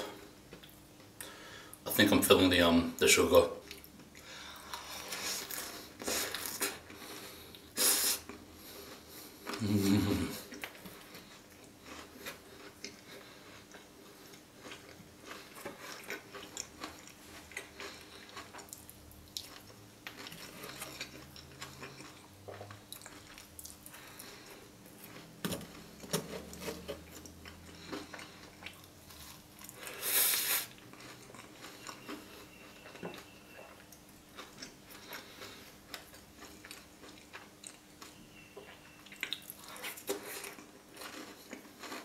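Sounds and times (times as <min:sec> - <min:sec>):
chewing crisp waffle: 0:03.6 - 0:42.0.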